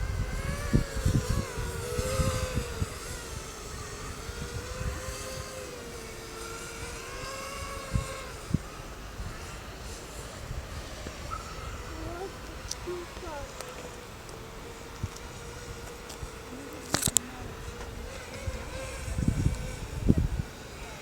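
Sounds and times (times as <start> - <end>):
quadcopter motors whining: 0.0 - 21.0
wind rumbling on microphone: 0.0 - 21.0.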